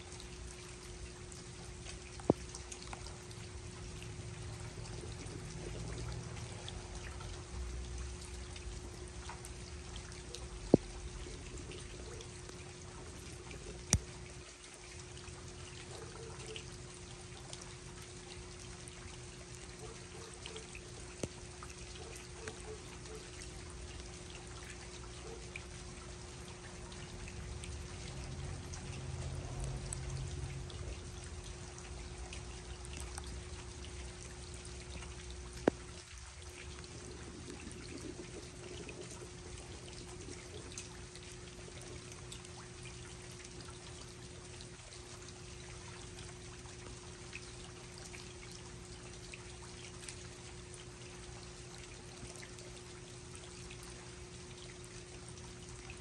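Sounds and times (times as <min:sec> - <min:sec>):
rain pattering: 0:00.0 - 0:45.4
faint steady hum: 0:00.0 - 0:56.0
water trickling: 0:00.0 - 0:56.0.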